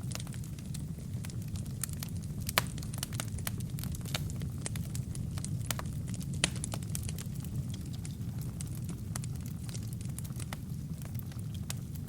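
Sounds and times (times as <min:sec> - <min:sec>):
low rumble of flames: 0:00.0 - 0:12.0
wood fire crackling: 0:00.0 - 0:12.0.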